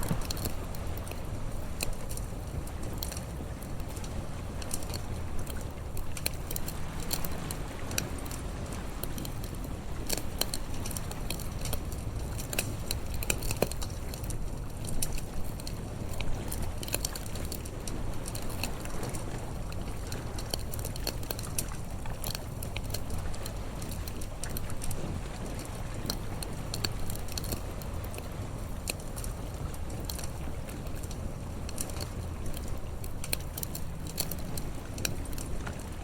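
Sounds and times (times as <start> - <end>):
low steady rumble: 0.0 - 36.0
wood fire crackling and popping: 0.0 - 36.0.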